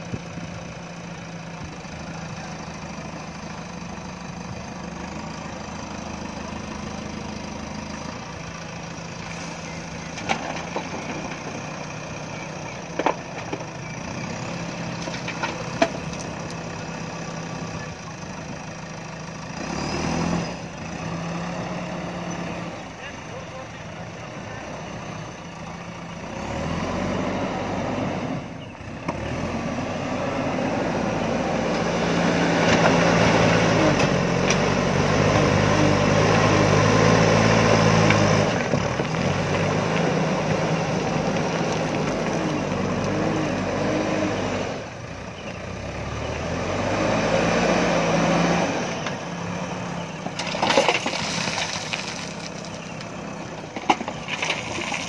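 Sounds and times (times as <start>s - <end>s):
diesel engine revving: 0.0s - 55.0s
loader scooping gravel: 0.0s - 55.0s.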